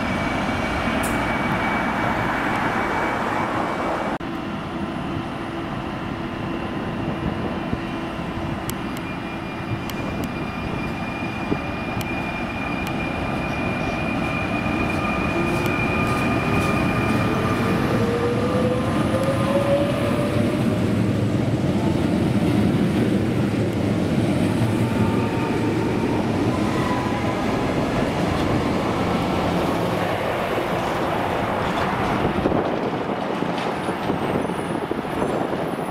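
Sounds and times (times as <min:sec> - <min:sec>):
wheels rumbling on rails: 0:00.0 - 0:35.9.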